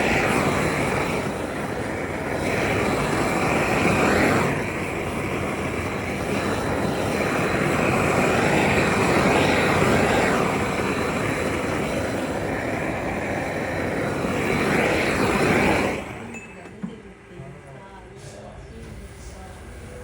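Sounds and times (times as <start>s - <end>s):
workshop machinery rushing: 0.0s - 17.0s.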